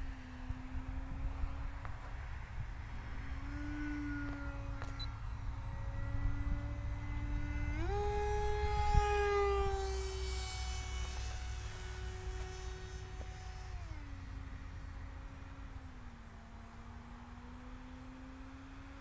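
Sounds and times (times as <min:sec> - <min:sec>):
wind rumble on microphone: 0:00.0 - 0:17.4
model plane motor whining: 0:00.0 - 0:19.0.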